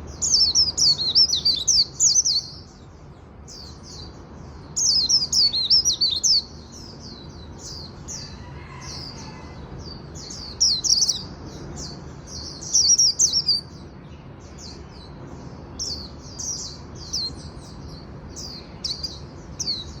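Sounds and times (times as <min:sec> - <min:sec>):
bird twittering song: 0:00.0 - 0:20.0.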